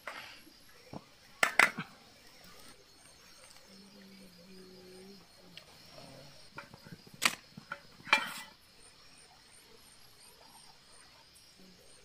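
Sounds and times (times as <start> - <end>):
high insect chirp: 0.0 - 12.0
night insects chorus: 0.0 - 12.0.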